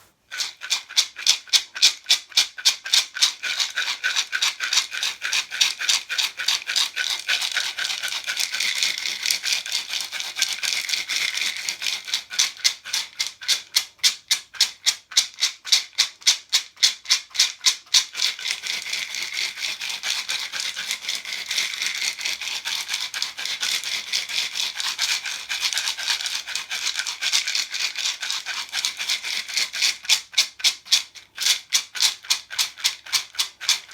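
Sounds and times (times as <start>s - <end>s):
gourd rattle shaking: 0.3s - 33.9s.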